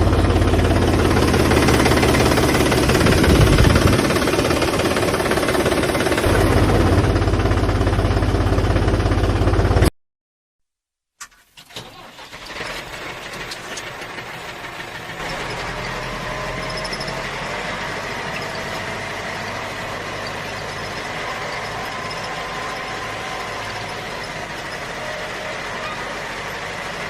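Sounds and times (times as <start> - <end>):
vehicle engine running: 0.0 - 9.9, 12.1 - 27.0.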